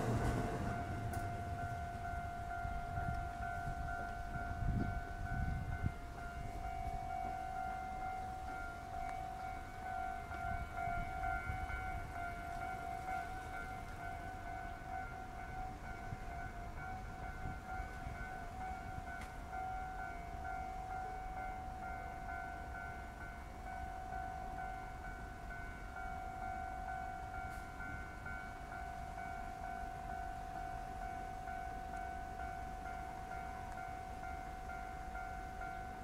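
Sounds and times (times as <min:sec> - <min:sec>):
level crossing warning alarm: 0:00.0 - 0:36.0.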